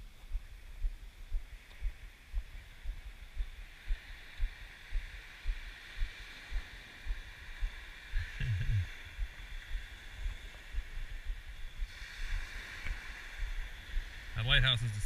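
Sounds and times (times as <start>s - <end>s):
small waves breaking on a beach: 0.0s - 15.0s.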